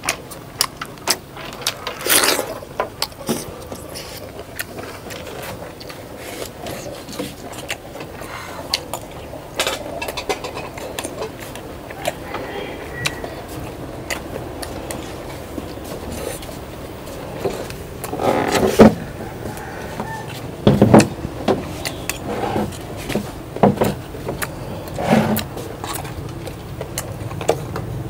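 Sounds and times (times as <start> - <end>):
person eating crunchy food: 0.0 - 23.3, 24.1 - 27.8
steady background noise: 0.0 - 28.0.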